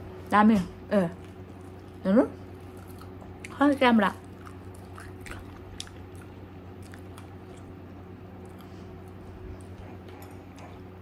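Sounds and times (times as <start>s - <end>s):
person chewing crispy food: 1.2s - 3.6s, 4.2s - 11.0s.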